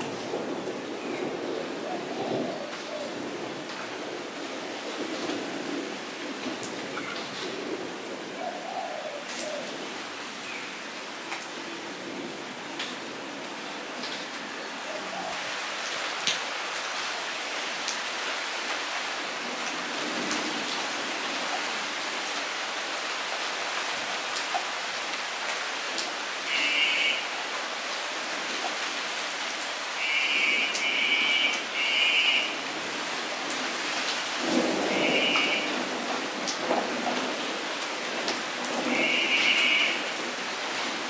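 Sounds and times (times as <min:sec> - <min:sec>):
rain on flooded pavement: 0:00.0 - 0:41.0.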